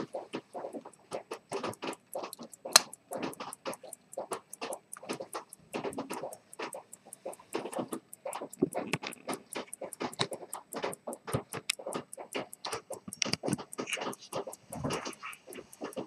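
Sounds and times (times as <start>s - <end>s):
louder irregular noises: 0.0s - 16.0s
pocket watch ticking: 0.0s - 16.0s.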